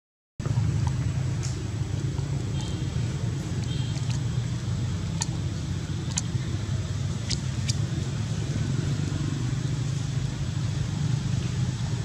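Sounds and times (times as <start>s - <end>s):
low engine rumble: 0.4s - 12.0s.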